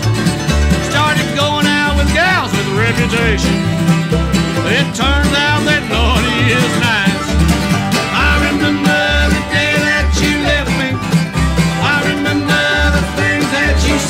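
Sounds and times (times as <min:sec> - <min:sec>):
bluegrass music with banjo: 0:00.0 - 0:14.0.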